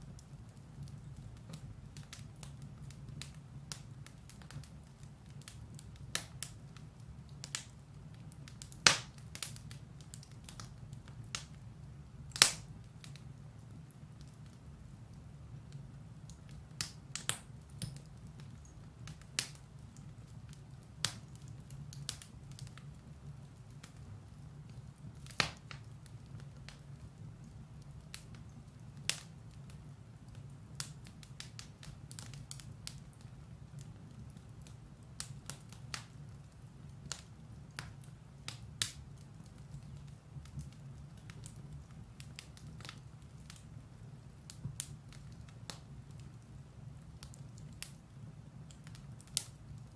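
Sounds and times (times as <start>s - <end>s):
fire rumbling: 0.0s - 49.9s
wood crackling and popping: 0.0s - 49.9s.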